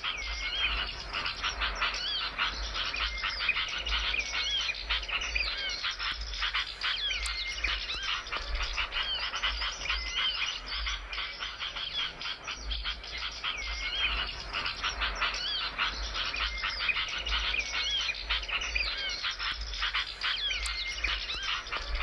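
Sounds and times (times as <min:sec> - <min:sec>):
curling bird whistles: 0:00.0 - 0:22.0
songbirds chattering: 0:00.0 - 0:22.0.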